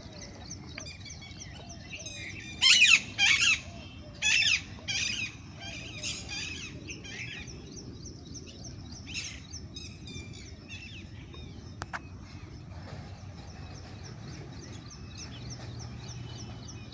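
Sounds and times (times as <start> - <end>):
wild birds calling: 0.0 - 16.9.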